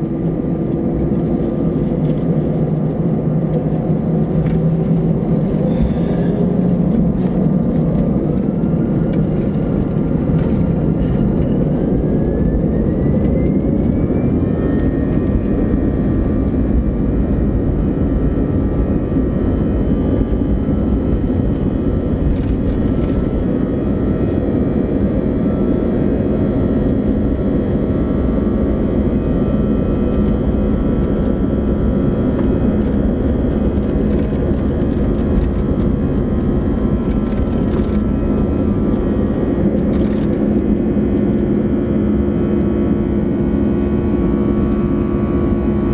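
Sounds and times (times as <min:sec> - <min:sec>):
jet engine whine rising: 0:00.0 - 0:45.9
loud engine rumble: 0:00.0 - 0:45.9.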